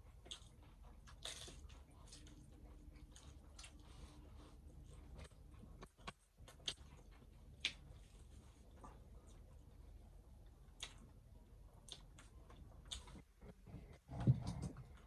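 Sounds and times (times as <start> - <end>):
chewing crunchy tacos: 0.0 - 15.0.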